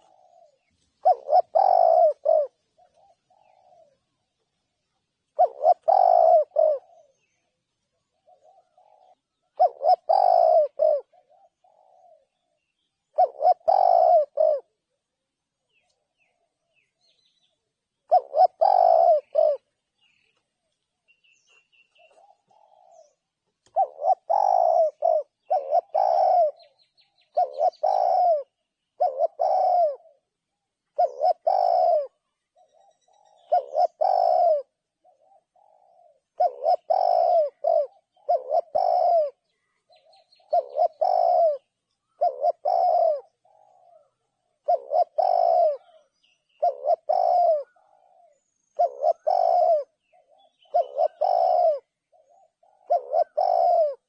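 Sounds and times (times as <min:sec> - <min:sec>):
dove cooing: 0:00.0 - 0:04.3, 0:04.9 - 0:54.0
faint soft bird calls: 0:00.0 - 0:54.0.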